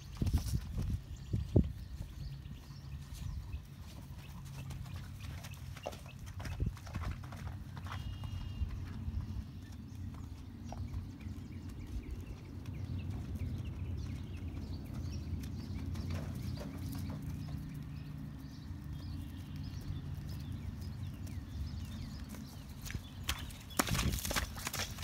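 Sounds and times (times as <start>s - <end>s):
horse hoofbeats on grass: 0.0s - 25.0s.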